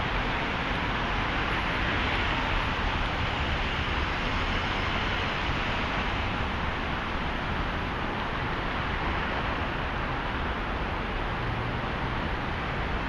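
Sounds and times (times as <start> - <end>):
city background rumble and hiss: 0.0 - 13.0.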